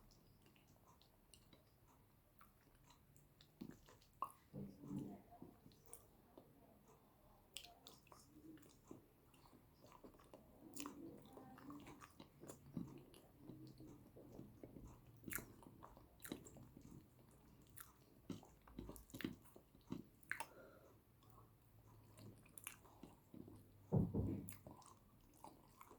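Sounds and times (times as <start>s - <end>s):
chewing and biting food: 0.2s - 25.9s.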